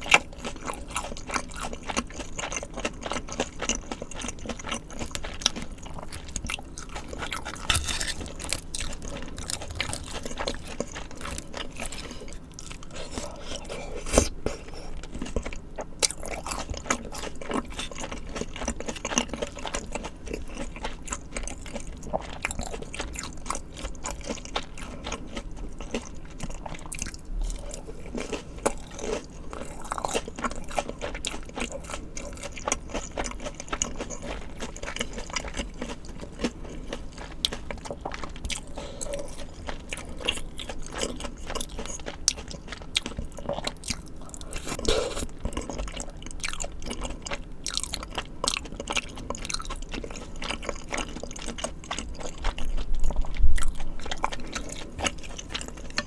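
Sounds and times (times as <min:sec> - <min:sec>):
crunchy chewing: 0:00.0 - 0:56.0.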